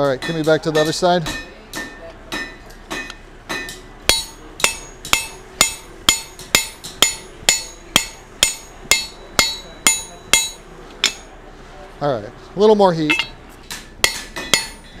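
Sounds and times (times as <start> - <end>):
hammer striking hot metal: 0.2 - 11.4, 13.0 - 15.0.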